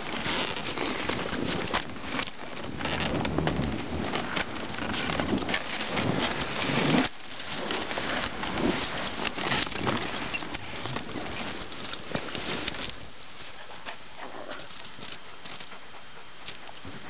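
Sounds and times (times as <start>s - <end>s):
sled runners hissing over snow: 0.0s - 17.0s
twigs crackling against sled: 0.0s - 17.0s.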